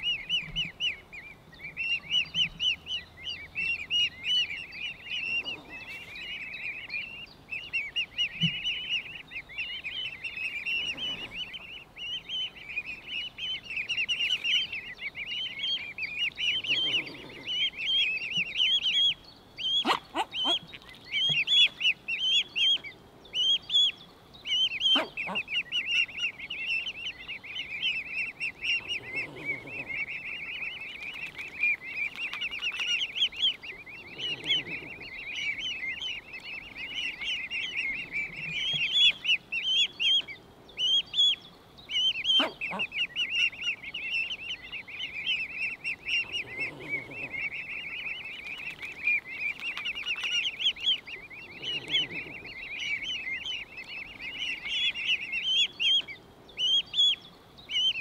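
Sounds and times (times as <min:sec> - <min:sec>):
cygnets cheeping: 0:00.0 - 0:58.0.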